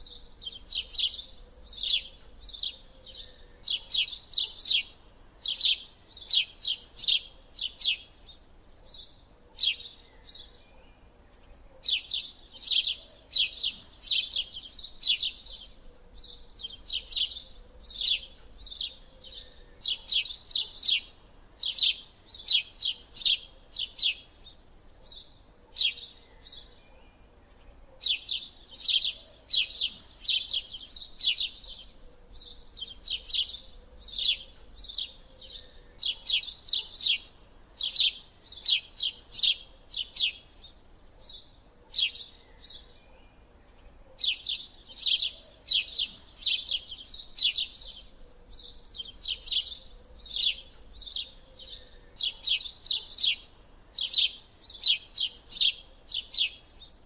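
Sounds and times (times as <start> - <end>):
small bird chirping: 0.0 - 57.0.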